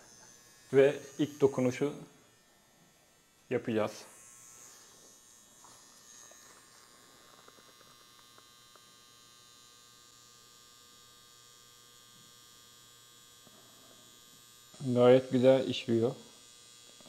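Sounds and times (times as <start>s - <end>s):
tattoo machine humming: 0.0s - 17.0s.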